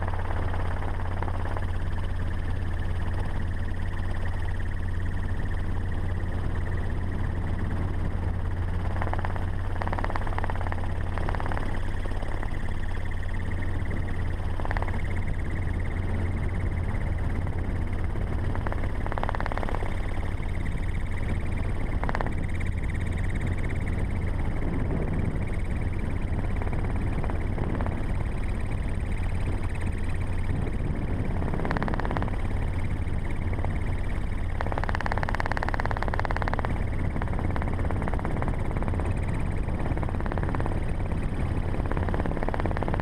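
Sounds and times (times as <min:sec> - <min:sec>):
engine and tyres droning: 0:00.0 - 0:43.0.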